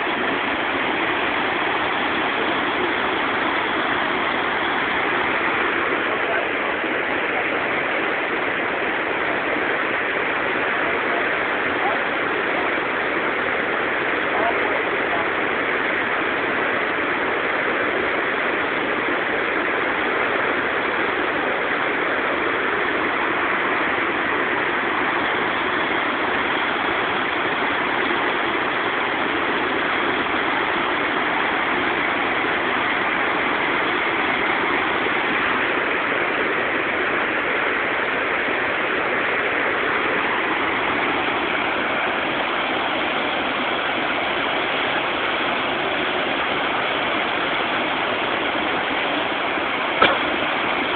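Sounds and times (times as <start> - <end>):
whitewater rushing over rocks: 0.0 - 50.9.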